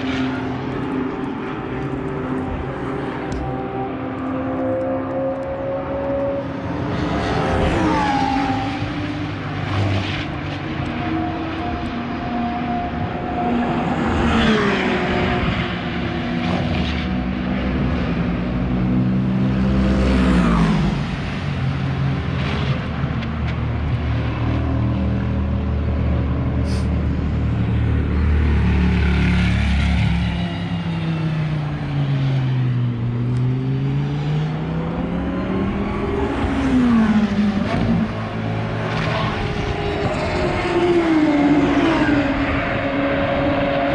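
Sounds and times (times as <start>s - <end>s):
cars passing by: 0.0s - 43.9s
racing car engines revving: 0.0s - 43.9s.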